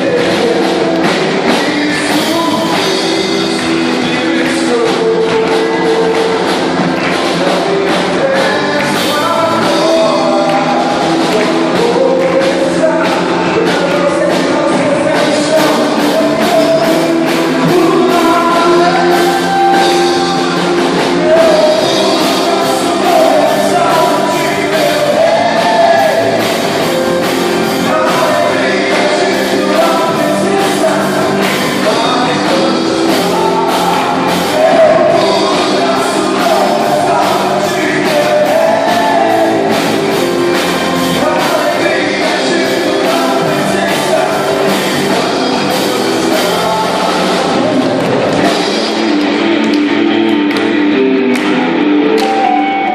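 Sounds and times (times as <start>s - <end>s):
steady drum beat: 0.0s - 52.5s
person singing: 0.0s - 52.9s
rock band playing: 0.0s - 52.9s.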